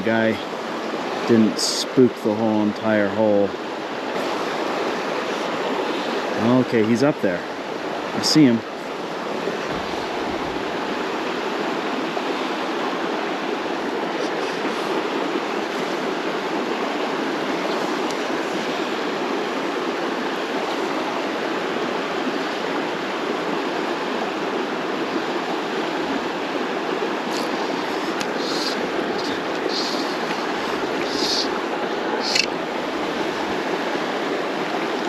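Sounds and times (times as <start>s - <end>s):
flowing water in a creek: 0.0s - 35.0s.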